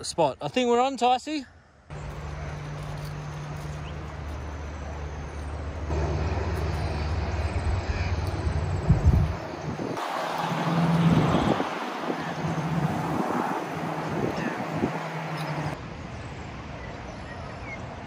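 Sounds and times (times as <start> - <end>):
road traffic hum: 1.5 - 18.0.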